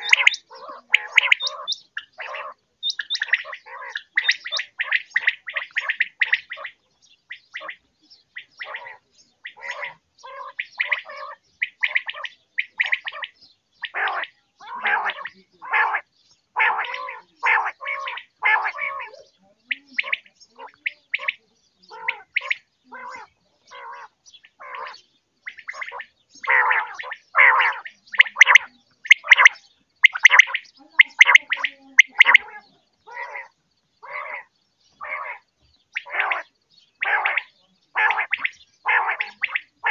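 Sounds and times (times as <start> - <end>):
quail calling in harsh bursts: 0.0 - 7.8, 8.4 - 39.9.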